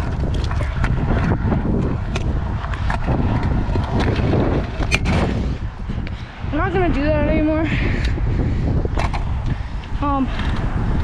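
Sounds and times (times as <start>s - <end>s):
scooter wheels rolling on concrete: 0.0s - 11.0s
wind buffeting microphone: 0.0s - 11.0s.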